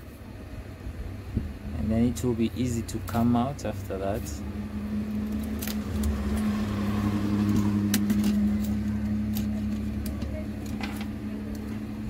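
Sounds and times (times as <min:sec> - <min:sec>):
hot air blower humming: 0:00.2 - 0:12.0.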